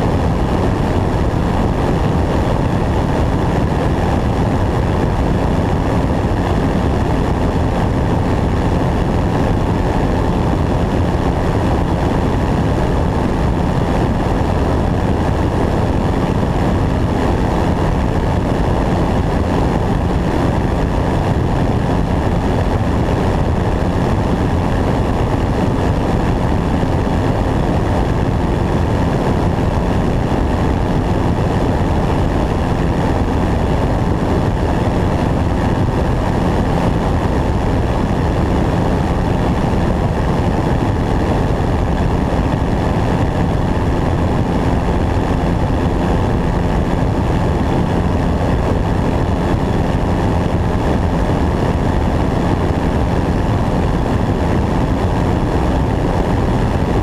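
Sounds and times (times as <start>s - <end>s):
propeller airplane drone: 0.0s - 57.0s
wind rushing over camera: 0.0s - 57.0s.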